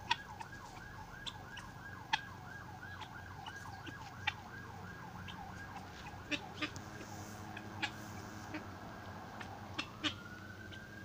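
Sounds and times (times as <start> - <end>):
guinea fowl calling: 0.0 - 11.0.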